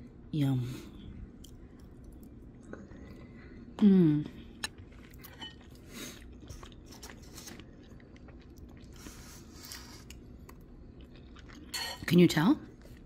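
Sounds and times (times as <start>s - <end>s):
people chewing: 1.3s - 11.9s.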